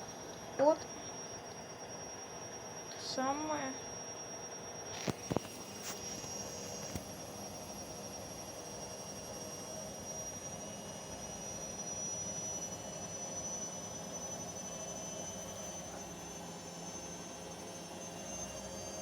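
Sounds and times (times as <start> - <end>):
high motor whine: 0.0 - 19.0
washing machine humming: 0.0 - 19.0.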